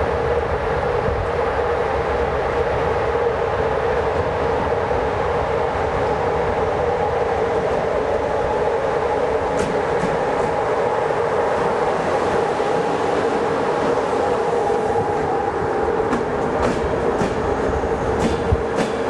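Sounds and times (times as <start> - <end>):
electric locomotive running hum: 0.0 - 19.0.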